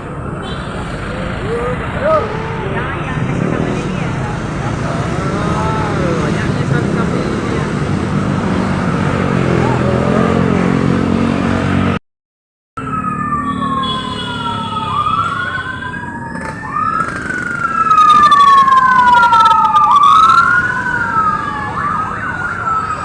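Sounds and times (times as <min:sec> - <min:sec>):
sirens wailing: 0:00.0 - 0:12.0, 0:12.8 - 0:23.0.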